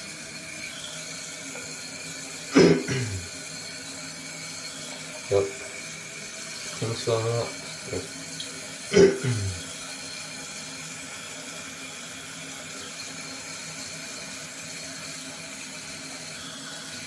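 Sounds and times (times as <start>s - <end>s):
toilet tank refilling: 0.0s - 17.0s.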